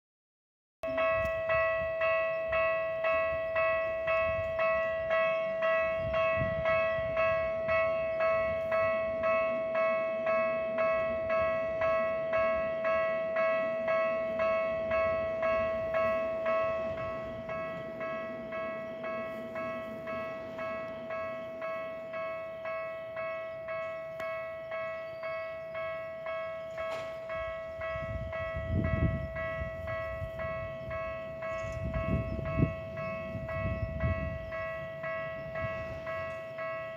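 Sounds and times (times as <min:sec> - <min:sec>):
level crossing warning bell: 0:00.8 - 0:36.9
train rumble: 0:00.8 - 0:36.9.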